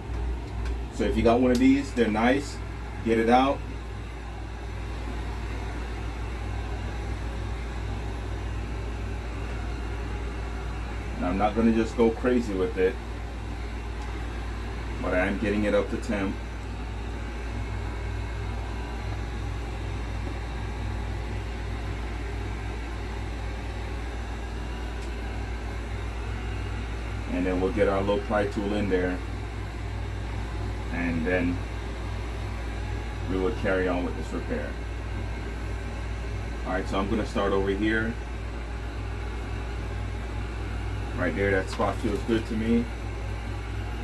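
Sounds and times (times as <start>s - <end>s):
heat gun blower running: 0.0s - 44.0s.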